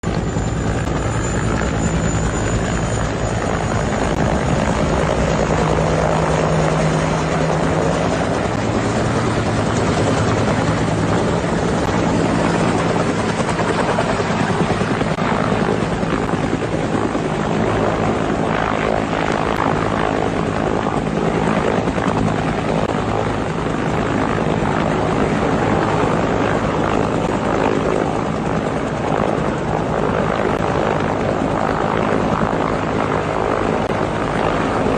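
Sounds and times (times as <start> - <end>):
helicopter rotor and engine: 0.0 - 34.9.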